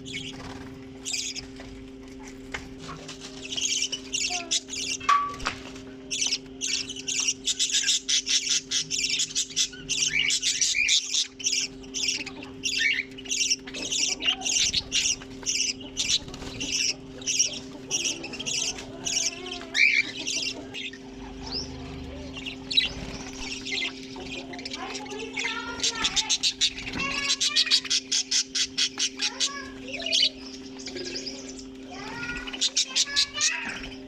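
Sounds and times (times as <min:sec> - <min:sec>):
budgerigars chattering and squawking: 0:00.0 - 0:34.0.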